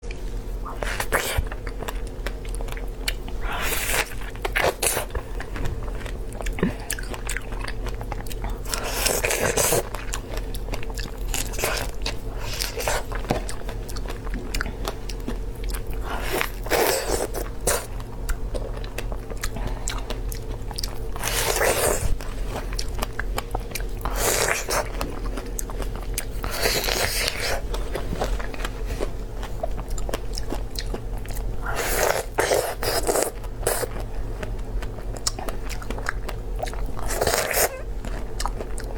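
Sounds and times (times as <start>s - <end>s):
low steady hum: 0.0s - 38.9s
wet chewing: 0.0s - 38.9s.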